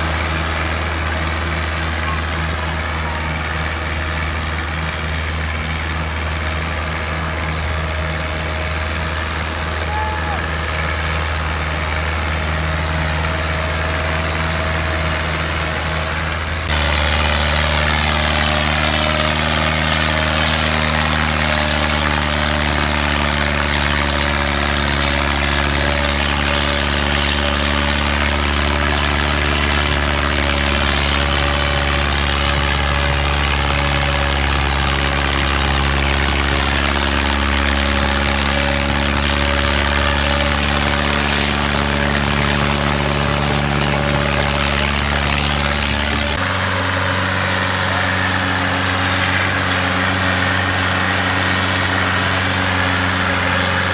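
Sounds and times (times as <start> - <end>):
diesel tractor engine running: 0.0 - 53.9
louder tractor engine: 0.0 - 53.9.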